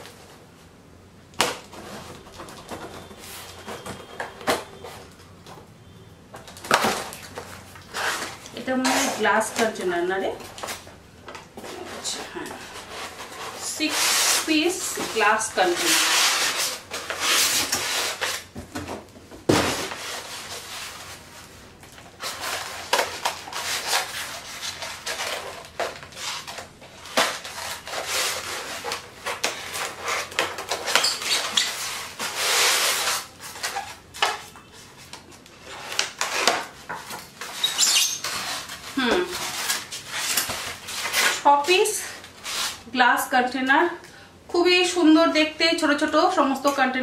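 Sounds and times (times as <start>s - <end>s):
cardboard and foam rustling: 1.4s - 5.6s, 6.4s - 42.9s.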